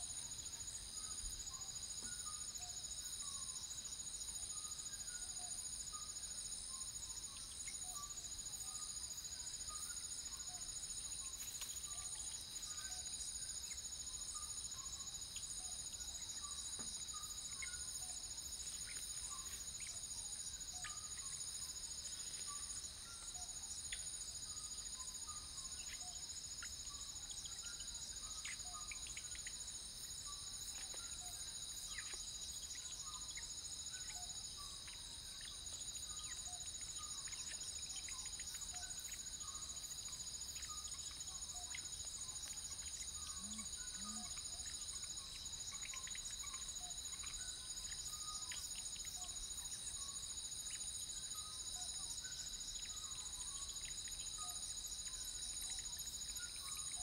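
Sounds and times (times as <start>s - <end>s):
high-pitched insect trills: 0.0s - 57.0s
short insect chirps: 0.0s - 57.0s.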